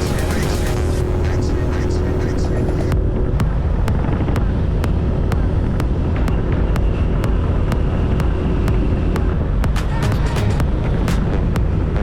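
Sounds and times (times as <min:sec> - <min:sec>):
motorbike engine drone: 0:00.0 - 0:12.0
sharp ticking: 0:00.0 - 0:12.0.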